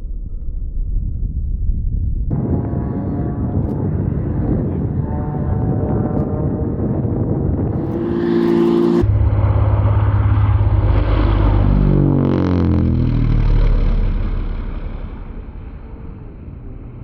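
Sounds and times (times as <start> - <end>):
propeller plane engine passing: 2.3 - 17.0.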